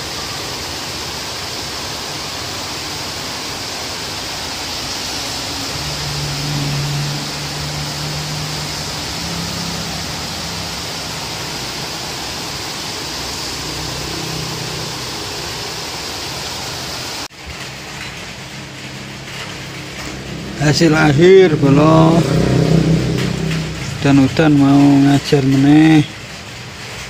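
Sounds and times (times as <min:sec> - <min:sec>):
heavy rain on leaves and grass: 0:00.0 - 0:27.0
softer rain hiss: 0:00.0 - 0:27.0.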